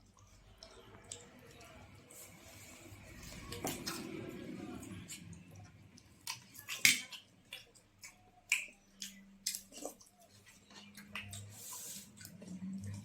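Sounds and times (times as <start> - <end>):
mouth smacks and clicks eating: 0.0 - 2.3, 4.8 - 13.0.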